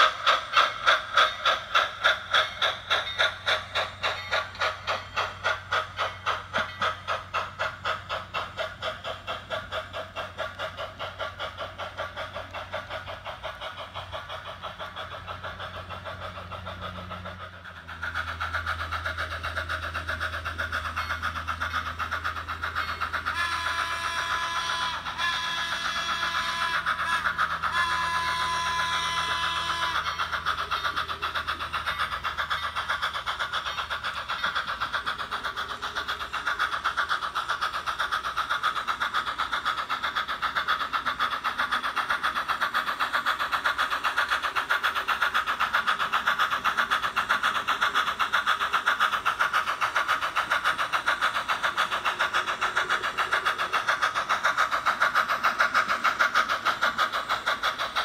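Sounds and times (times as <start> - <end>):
steam locomotive exhaust chuffing: 0.0 - 58.0.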